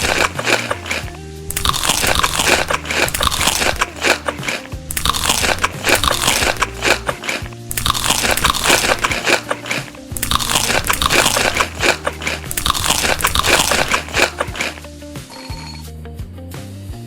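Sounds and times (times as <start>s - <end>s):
crunchy food chewing: 0.0s - 14.9s.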